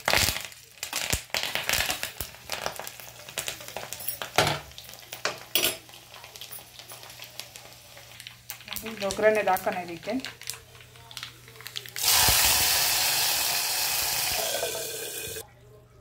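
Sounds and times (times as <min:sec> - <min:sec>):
spices sizzling in hot oil: 0:00.0 - 0:15.4.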